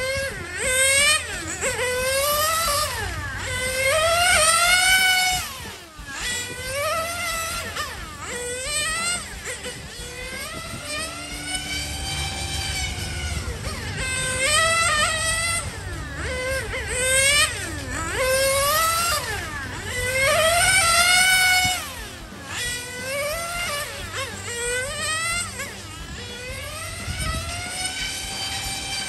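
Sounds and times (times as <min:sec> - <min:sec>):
rc car engine whining: 0:00.0 - 0:29.0.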